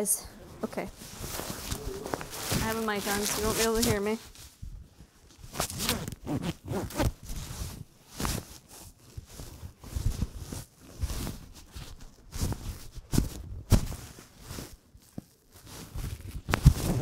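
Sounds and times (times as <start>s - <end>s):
coat fabric rustling on microphone: 0.0s - 17.0s.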